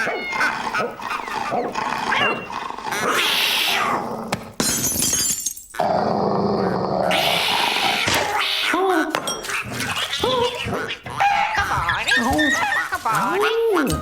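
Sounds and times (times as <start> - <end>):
cartoon dogs growling and barking: 0.0 - 4.4, 5.7 - 14.0.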